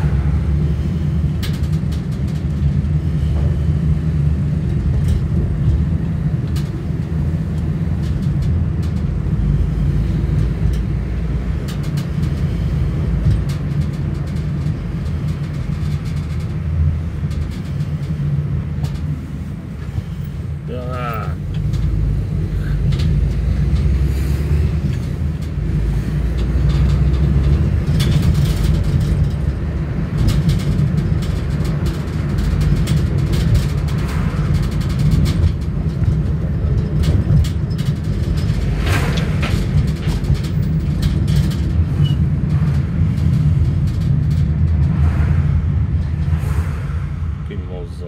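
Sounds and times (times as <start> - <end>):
car engine and tyres rumbling: 0.0 - 48.0.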